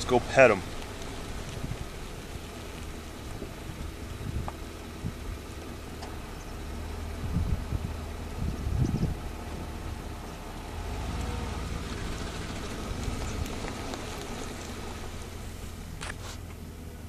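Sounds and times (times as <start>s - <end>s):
wind noise: 0.0s - 5.7s, 6.3s - 15.1s
vehicle engine idling: 0.0s - 17.0s.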